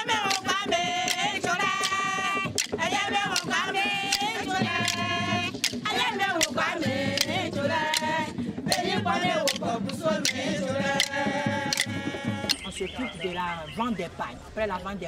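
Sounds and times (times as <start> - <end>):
women singing together: 0.0 - 12.7
sharp rhythmic beat: 0.0 - 14.0.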